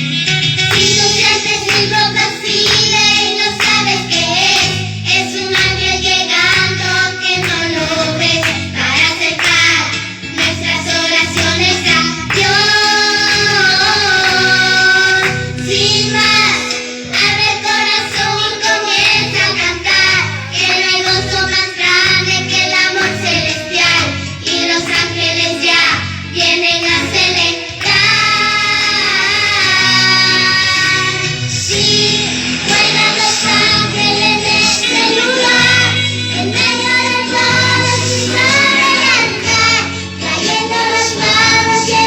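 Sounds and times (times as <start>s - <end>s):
backing music: 0.0s - 42.0s
girl singing: 0.8s - 42.0s.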